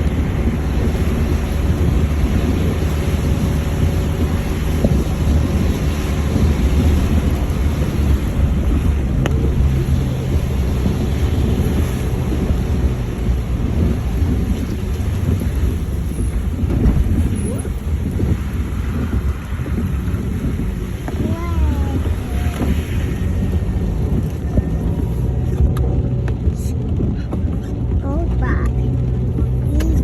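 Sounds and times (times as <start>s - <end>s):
vehicle rumble and road noise: 0.0s - 30.0s.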